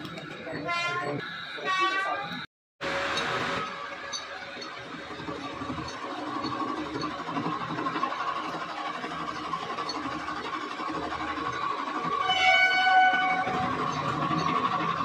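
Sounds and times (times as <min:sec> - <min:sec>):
metal lathe whirring: 0:00.0 - 0:15.0.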